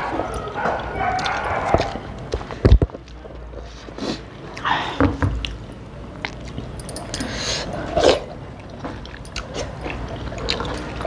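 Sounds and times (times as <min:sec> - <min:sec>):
chewing and mouth smacks: 0:00.1 - 0:03.6, 0:05.4 - 0:11.0.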